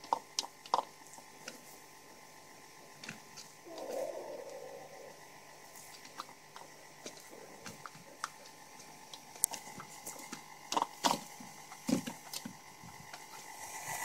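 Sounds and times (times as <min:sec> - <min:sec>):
hens pecking in plastic bowl: 0:00.0 - 0:01.8, 0:03.0 - 0:04.6, 0:05.6 - 0:13.6.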